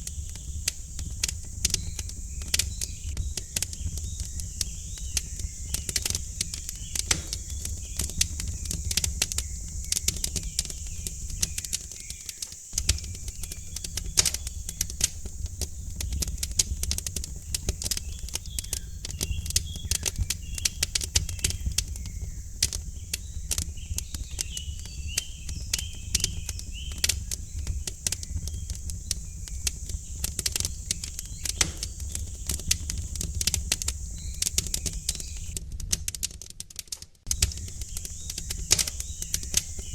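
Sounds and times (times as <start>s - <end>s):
small birds chirping: 0.0s - 35.6s, 37.3s - 39.9s
wood fire crackling: 0.0s - 39.9s.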